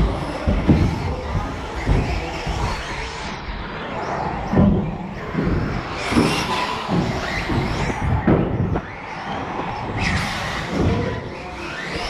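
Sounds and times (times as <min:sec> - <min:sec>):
radio-controlled car motor rattling: 0:00.0 - 0:12.0.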